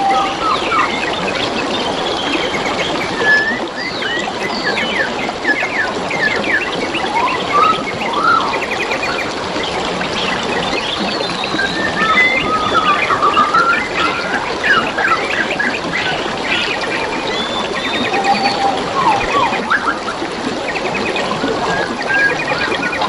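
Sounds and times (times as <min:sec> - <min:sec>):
birds chirping and whistling: 0:00.0 - 0:09.3, 0:10.2 - 0:23.0
stream water trickling: 0:00.0 - 0:23.0.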